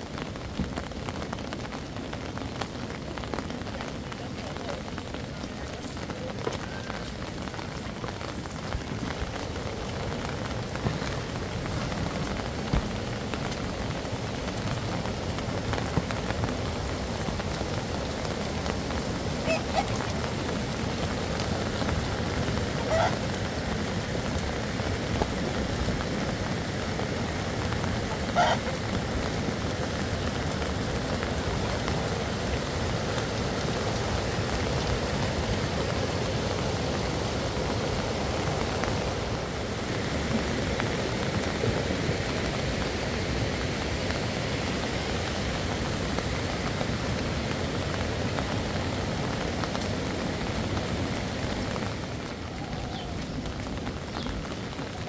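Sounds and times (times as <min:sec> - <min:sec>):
rain hissing: 0:00.0 - 0:55.0
rushing floodwater: 0:00.0 - 0:55.0.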